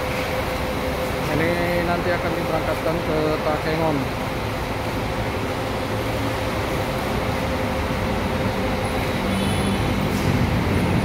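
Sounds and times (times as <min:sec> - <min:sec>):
diesel bus engine running: 0:00.0 - 0:11.0.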